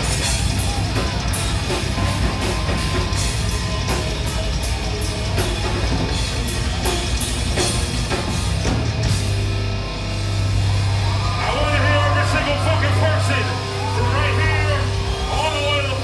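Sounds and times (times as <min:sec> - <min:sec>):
heavy metal band playing: 0:00.0 - 0:16.0.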